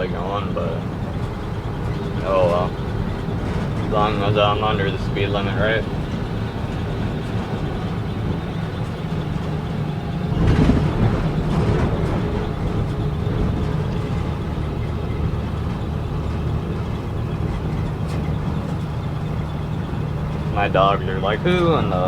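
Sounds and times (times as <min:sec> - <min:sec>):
truck engine low drone: 0:00.0 - 0:22.0.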